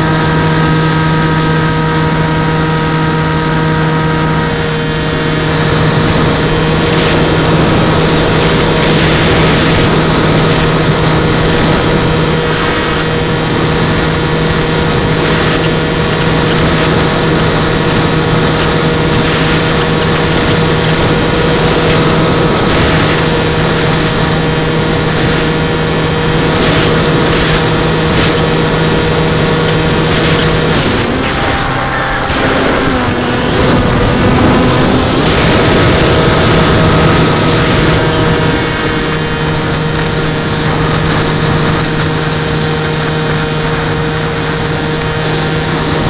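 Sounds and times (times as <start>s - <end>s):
electric motor humming: 0.0s - 46.0s
lower motor note: 0.0s - 46.0s
rushing air: 4.2s - 43.8s.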